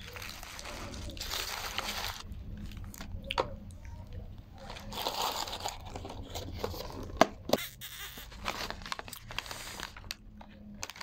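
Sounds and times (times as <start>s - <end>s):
plastic and foil crinkling: 0.0s - 3.1s, 4.6s - 11.0s.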